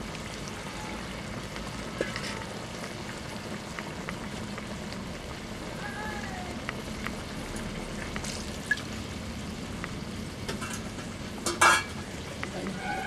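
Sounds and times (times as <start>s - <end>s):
curry sizzling in a metal pan: 0.0s - 13.0s.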